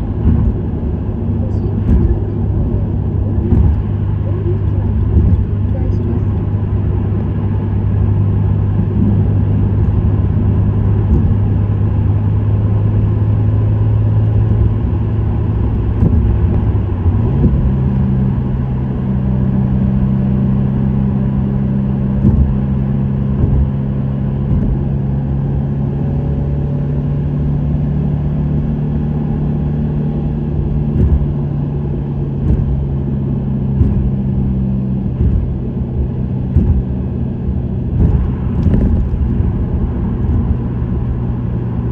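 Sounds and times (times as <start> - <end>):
car engine cruising: 0.0 - 41.9
tyre and road noise: 0.0 - 41.9.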